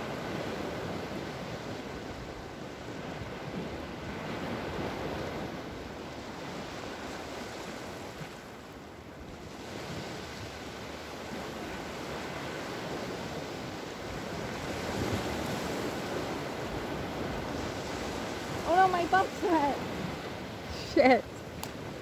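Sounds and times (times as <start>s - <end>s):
ocean surf on beach: 0.0s - 22.0s.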